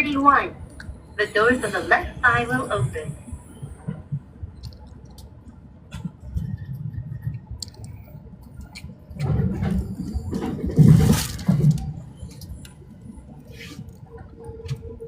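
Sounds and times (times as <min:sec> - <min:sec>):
train clicks and rattles: 0:00.0 - 0:15.0
train rumble inside carriage: 0:00.0 - 0:15.0.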